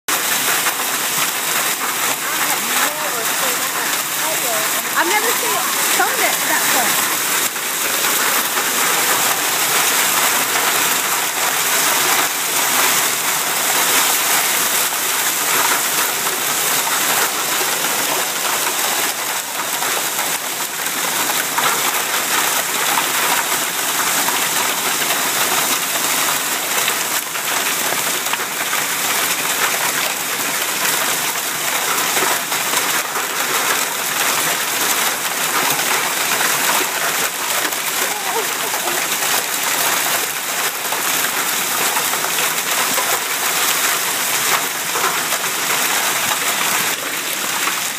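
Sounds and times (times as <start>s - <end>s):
hail pelting down: 0.1s - 47.9s.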